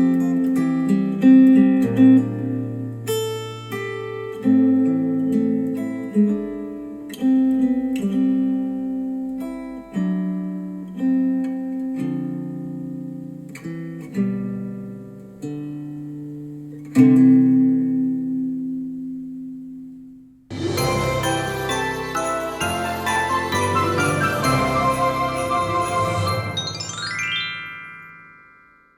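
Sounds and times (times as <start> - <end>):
acoustic guitar chords over speakers: 0.0 - 26.9.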